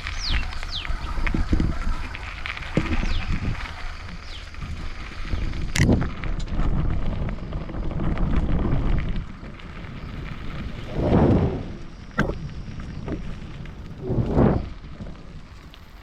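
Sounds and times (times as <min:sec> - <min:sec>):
bicycle rolling over rough track: 0:00.0 - 0:16.0
wind buffeting microphone: 0:00.0 - 0:16.0.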